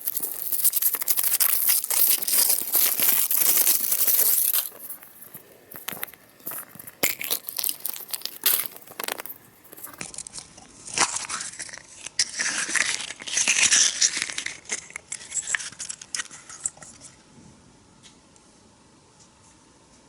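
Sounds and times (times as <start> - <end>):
wrapper crinkling and tearing: 0.0 - 16.6.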